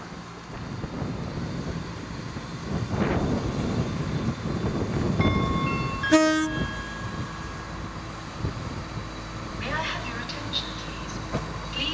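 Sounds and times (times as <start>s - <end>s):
train running: 0.0s - 11.9s.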